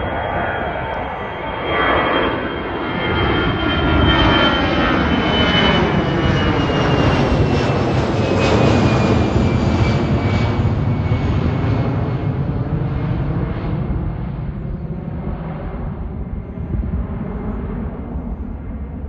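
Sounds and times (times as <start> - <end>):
airplane engines whining: 0.0 - 19.0.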